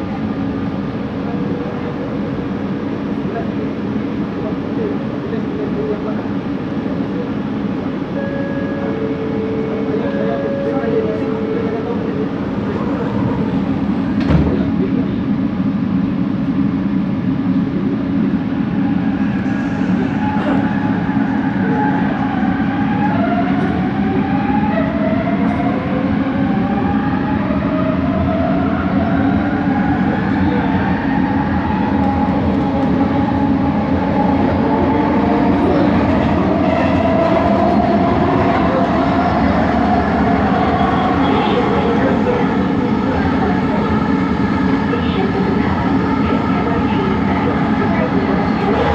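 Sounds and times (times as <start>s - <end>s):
train motor and rolling hum: 0.0s - 48.9s.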